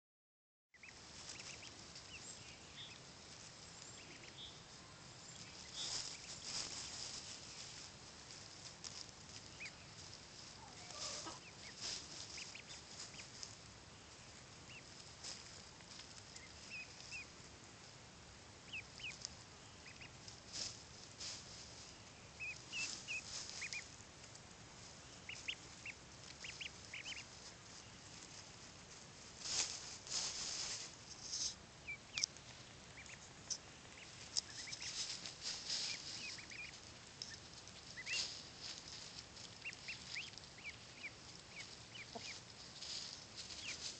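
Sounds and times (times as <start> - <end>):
ducklings peeping: 0.8 - 43.9
hissy rustles: 0.9 - 18.1, 19.0 - 43.9.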